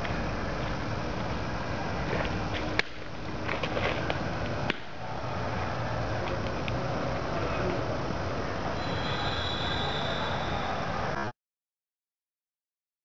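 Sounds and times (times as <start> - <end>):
outdoor background noise: 0.0 - 11.3.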